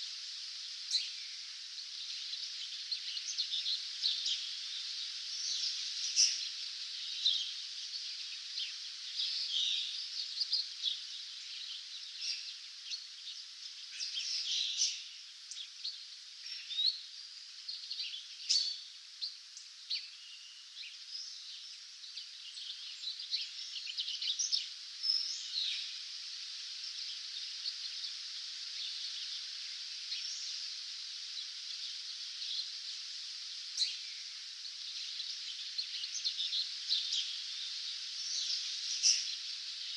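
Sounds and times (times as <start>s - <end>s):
steady high hiss: 0.0s - 39.9s
songbirds chirping and singing: 0.8s - 39.9s.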